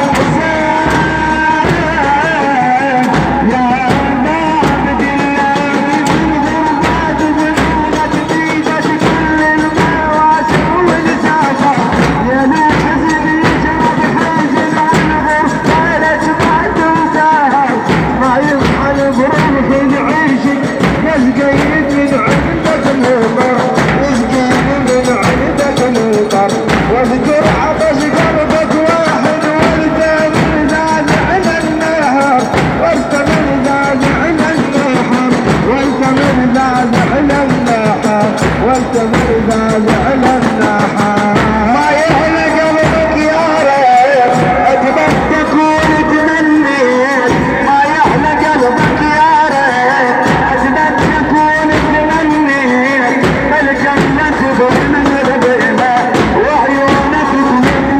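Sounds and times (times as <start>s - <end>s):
men chanting in unison: 0.0s - 57.9s
sharp percussive strikes: 0.0s - 57.9s.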